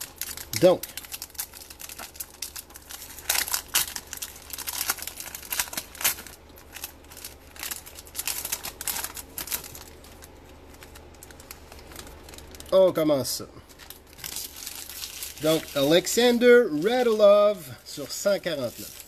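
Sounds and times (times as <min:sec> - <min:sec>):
foil wrapper crinkling: 0:00.0 - 0:19.0.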